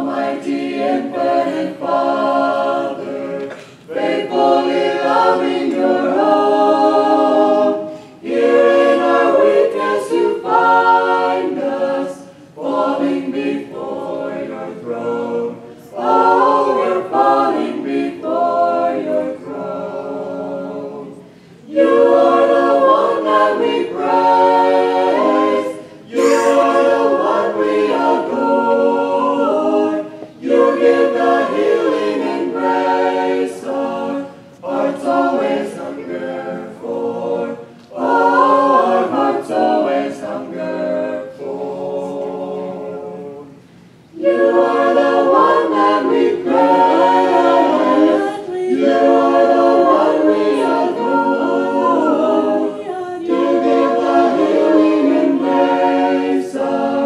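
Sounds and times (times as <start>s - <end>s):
choir singing a hymn a cappella: 0.0s - 57.0s.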